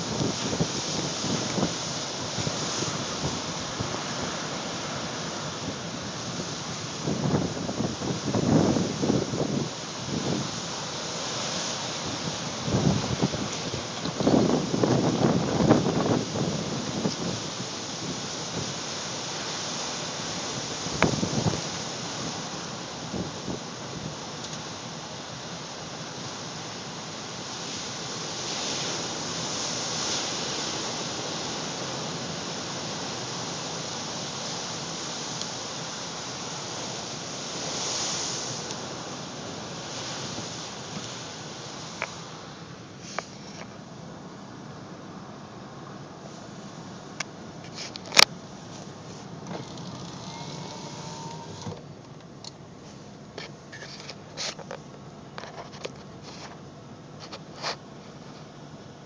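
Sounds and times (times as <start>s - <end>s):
storm surf: 0.0s - 53.4s
wind: 0.0s - 59.0s.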